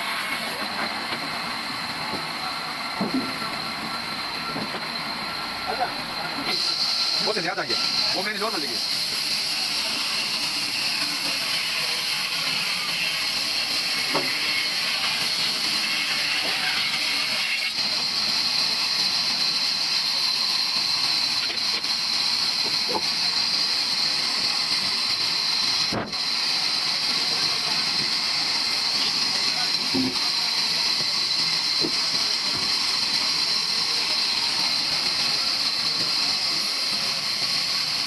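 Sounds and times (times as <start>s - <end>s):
saw cutting through wood: 5.8s - 38.0s.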